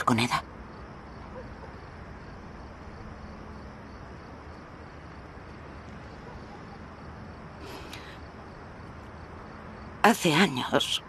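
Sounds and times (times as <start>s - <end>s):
crickets chirping: 0.0s - 11.0s
low background hum: 0.0s - 11.0s.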